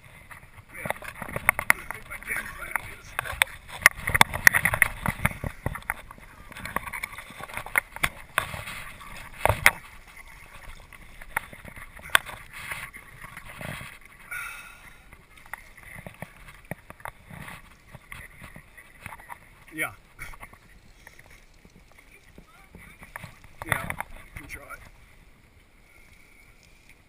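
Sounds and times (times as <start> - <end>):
knocks and scrapes against rock: 0.0 - 14.3, 15.1 - 25.0
running river water: 0.0 - 27.0.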